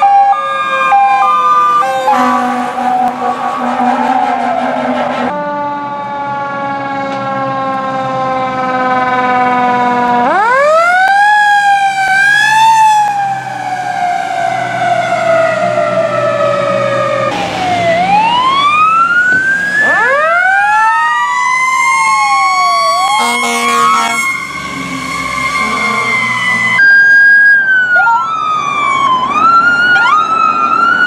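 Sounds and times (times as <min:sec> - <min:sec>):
fire engine siren wailing: 0:00.0 - 0:31.0
fire engine siren winding down: 0:00.0 - 0:31.0.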